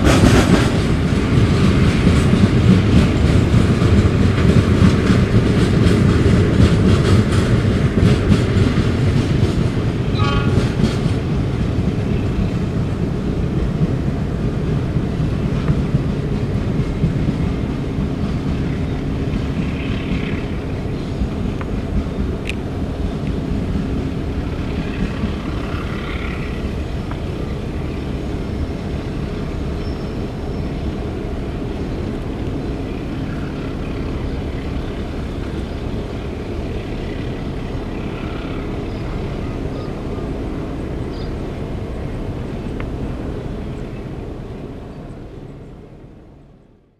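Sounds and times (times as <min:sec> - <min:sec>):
freight train rumble: 0:00.0 - 0:46.9.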